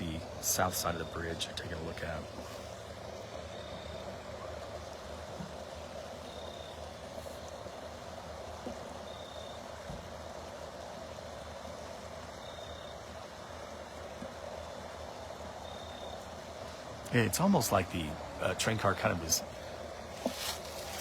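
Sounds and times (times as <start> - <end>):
creek water rushing: 0.0 - 12.4, 13.0 - 21.0.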